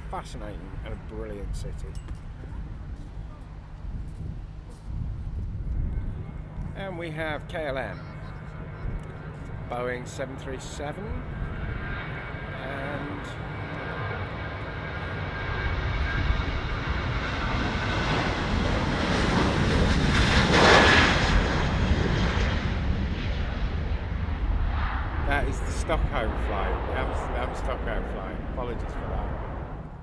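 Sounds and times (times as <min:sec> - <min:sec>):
jet engines roaring at take-off: 0:03.5 - 0:30.0.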